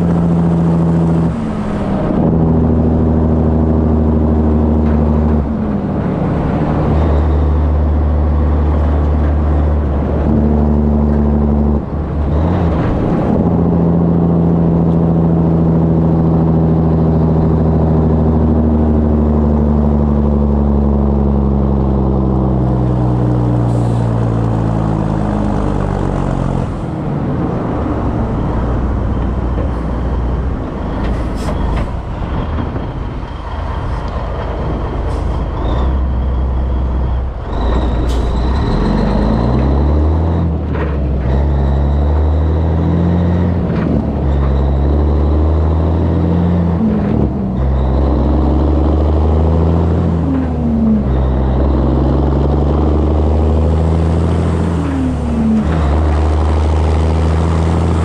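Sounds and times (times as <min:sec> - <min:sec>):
road and wind noise: 0:00.0 - 0:58.0
truck diesel engine: 0:00.0 - 0:58.0.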